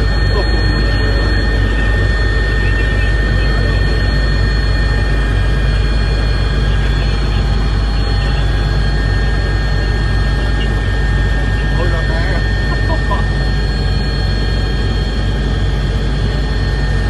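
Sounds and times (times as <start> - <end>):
helicopter engine and rotor drone: 0.0 - 17.0
high whine: 0.0 - 17.0.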